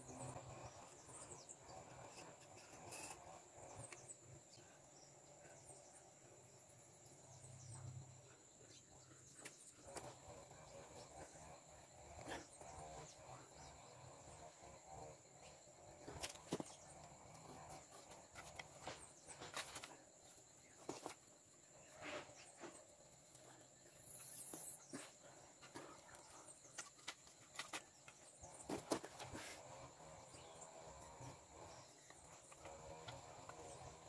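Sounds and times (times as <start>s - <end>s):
high insect trill: 0.0s - 34.0s.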